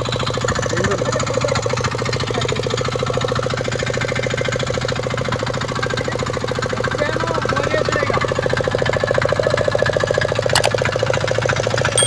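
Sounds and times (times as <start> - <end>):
diesel engine running: 0.0 - 12.0
engine knocking: 0.0 - 12.0.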